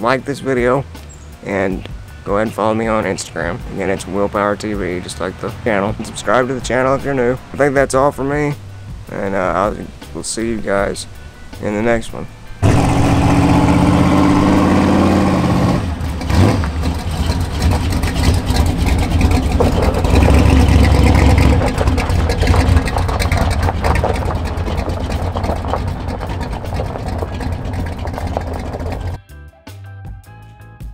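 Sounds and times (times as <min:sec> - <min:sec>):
loud engine rumbling: 0:00.0 - 0:29.2.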